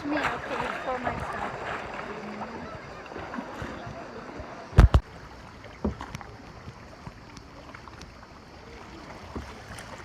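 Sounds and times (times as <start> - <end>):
water sloshing and trickling: 0.0 - 10.0.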